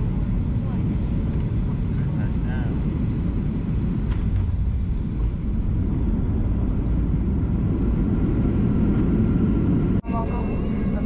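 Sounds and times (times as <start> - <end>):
jet cabin engine rumble: 0.0 - 11.0.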